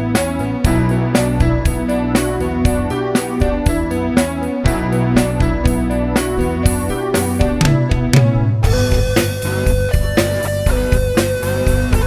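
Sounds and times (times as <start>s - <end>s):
instrumental pop band music: 0.0s - 12.0s.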